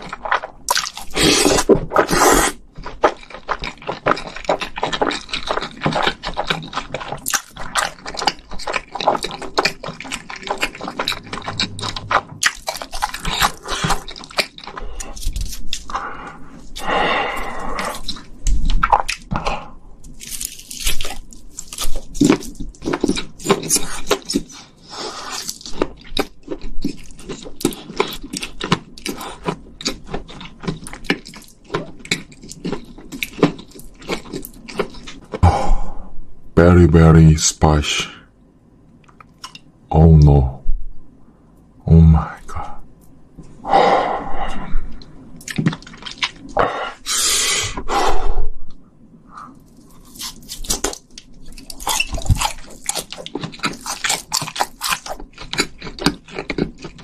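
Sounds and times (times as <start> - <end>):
person chewing noodles: 0.0 - 35.9, 39.0 - 39.7, 43.7 - 48.5, 49.3 - 57.0.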